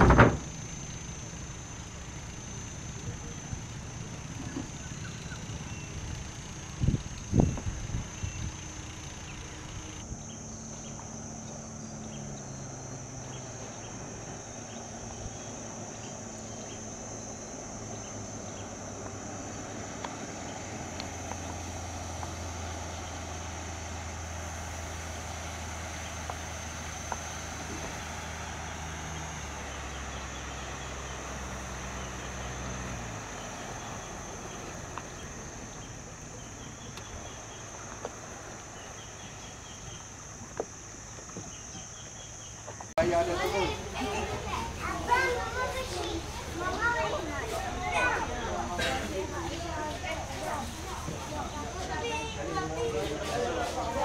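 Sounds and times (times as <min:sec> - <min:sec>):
engine running at low speed: 0:00.0 - 0:54.0
insects chirring: 0:00.0 - 0:54.0.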